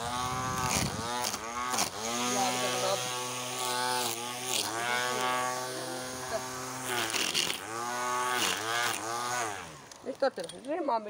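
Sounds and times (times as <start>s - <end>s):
electric string trimmer whining: 0.0s - 10.8s.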